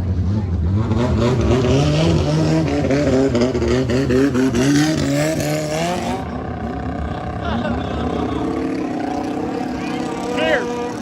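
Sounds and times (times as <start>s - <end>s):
boat engine revving: 0.2s - 11.0s.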